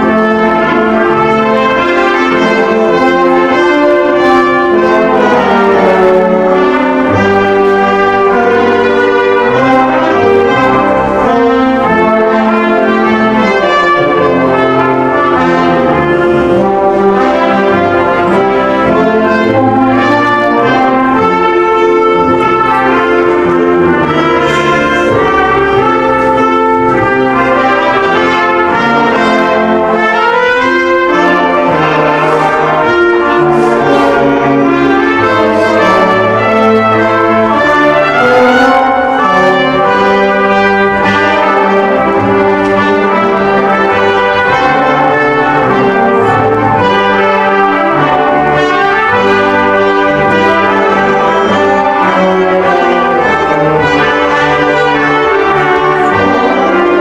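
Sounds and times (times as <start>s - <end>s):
brass ensemble playing chords: 0.0s - 57.0s.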